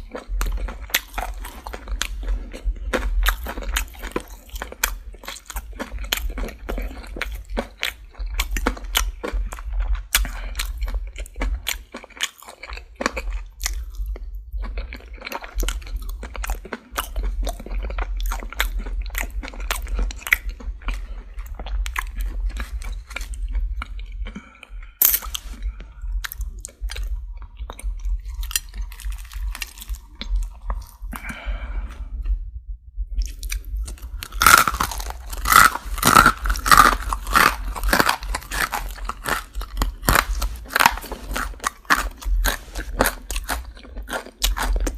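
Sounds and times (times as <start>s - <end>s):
chewing crispy chicken crunches: 0.0s - 31.7s, 33.2s - 44.9s.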